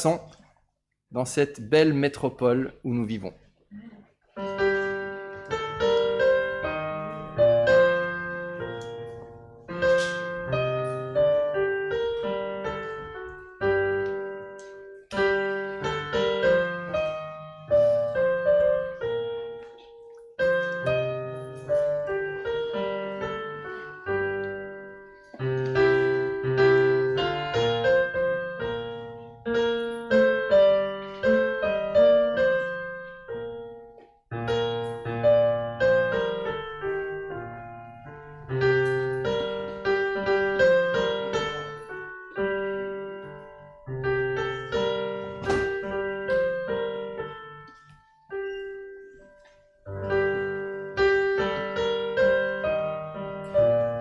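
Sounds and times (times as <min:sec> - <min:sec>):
solo piano playing slowly: 0:04.3 - 0:54.0.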